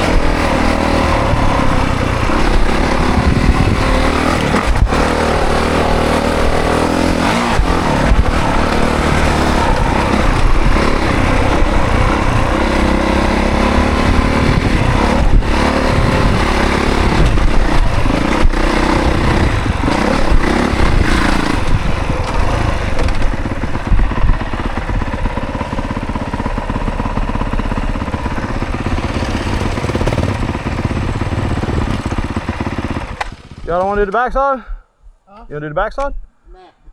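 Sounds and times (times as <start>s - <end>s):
dirt bike engine revving: 0.0s - 34.1s.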